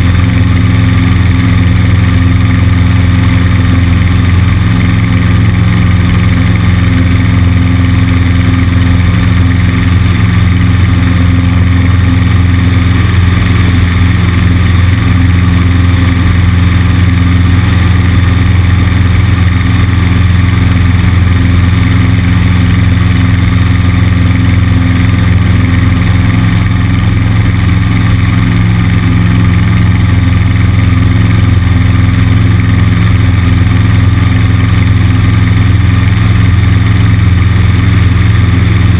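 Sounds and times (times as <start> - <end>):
airplane engine and propeller: 0.0 - 38.9.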